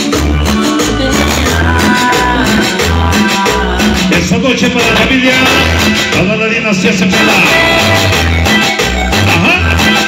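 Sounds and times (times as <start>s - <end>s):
person singing melody: 0.0s - 6.2s, 7.0s - 10.0s
latin dance music: 0.0s - 10.0s
steady bass beat: 0.0s - 10.0s.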